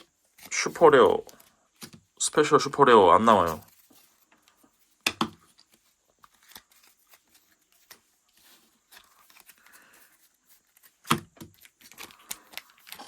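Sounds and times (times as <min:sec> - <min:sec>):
rustling of card packs: 0:00.0 - 0:13.0.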